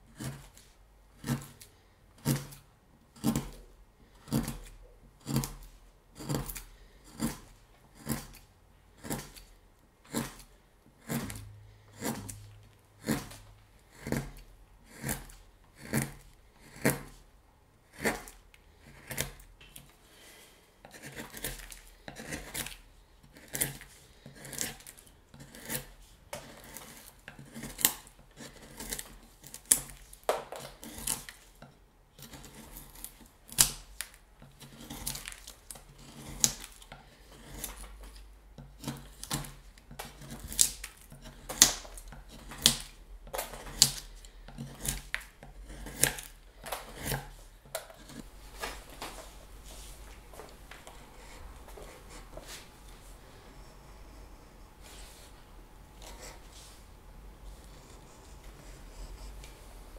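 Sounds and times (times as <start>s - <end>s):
carving knife cutting wood: 0.0s - 48.9s, 53.6s - 56.5s, 57.5s - 59.6s.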